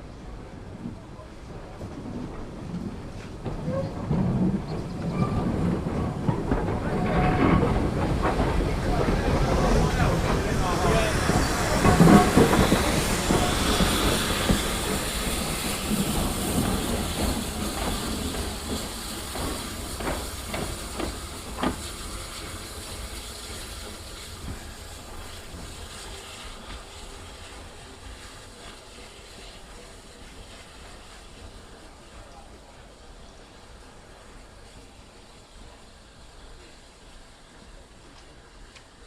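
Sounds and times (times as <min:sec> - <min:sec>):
steam train moving: 0:00.0 - 0:39.0
steam hissing: 0:02.2 - 0:39.0.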